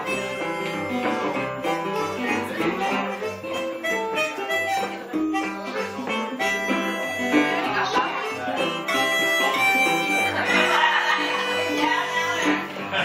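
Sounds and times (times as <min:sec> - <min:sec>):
harmonica melody: 0:00.0 - 0:13.0
strummed guitar: 0:00.0 - 0:13.0.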